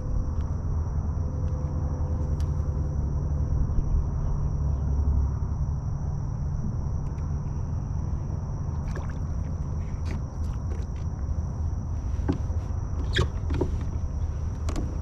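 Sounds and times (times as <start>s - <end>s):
insects trilling: 2.7s - 15.0s.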